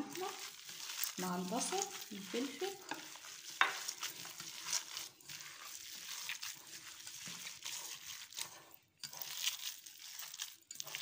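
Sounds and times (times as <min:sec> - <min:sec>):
hands squishing minced meat: 0:00.0 - 0:11.0.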